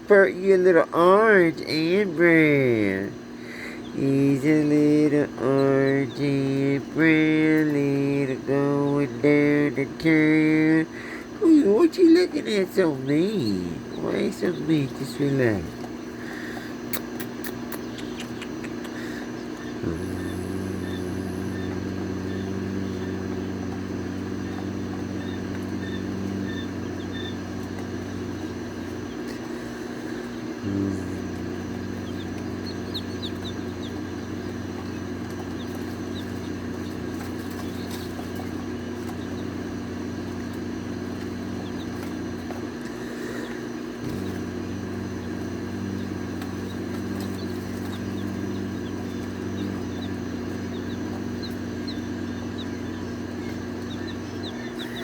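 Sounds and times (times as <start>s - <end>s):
low electrical hum: 0.0s - 55.0s
chicks peeping: 2.8s - 55.0s.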